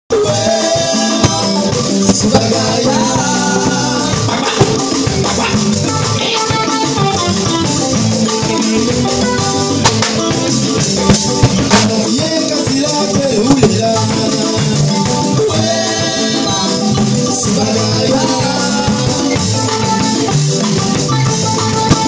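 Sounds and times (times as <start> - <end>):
congas: 0.1 - 22.0
live band playing: 0.1 - 22.0.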